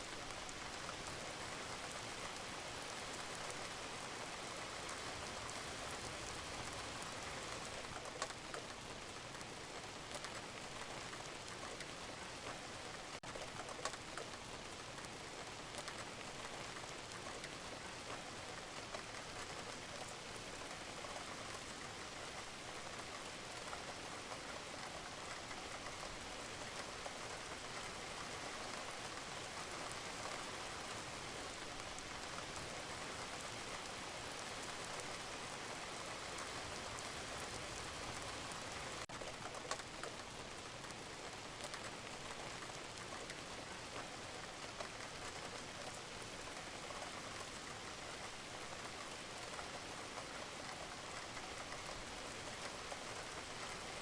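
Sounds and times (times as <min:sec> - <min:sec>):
rain pattering on a roof: 0:00.0 - 0:54.0.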